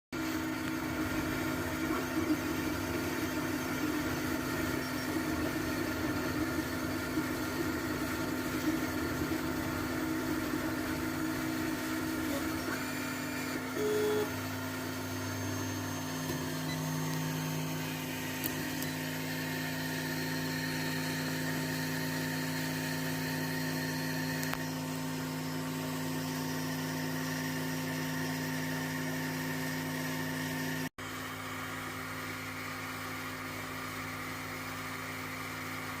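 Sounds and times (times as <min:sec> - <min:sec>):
printer motors whining and humming: 0:00.2 - 0:30.9.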